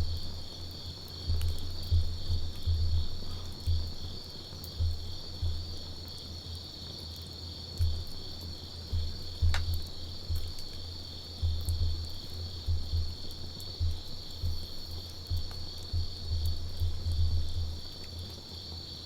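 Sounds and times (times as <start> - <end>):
campfire crackling and popping: 0.0 - 18.5
crickets trilling: 0.0 - 19.0.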